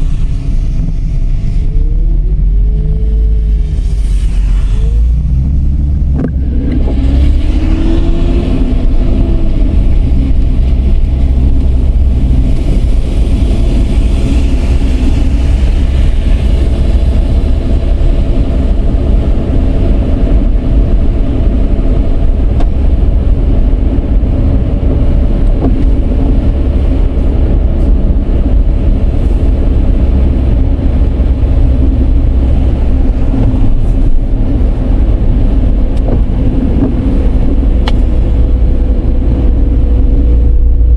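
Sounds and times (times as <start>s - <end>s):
car engine accelerating: 0.0s - 40.9s
low road rumble: 0.0s - 40.9s.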